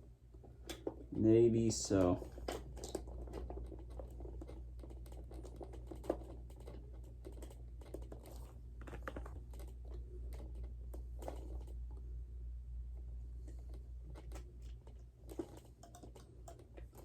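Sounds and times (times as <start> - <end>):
steady low hum: 0.0 - 17.0
batteries and plastic parts clicking: 0.4 - 1.2, 1.9 - 11.8, 13.5 - 17.0.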